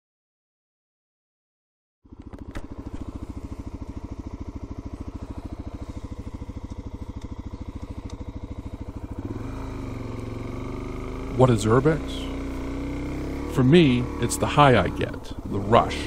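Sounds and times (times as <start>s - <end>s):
engine idling: 2.1s - 16.0s.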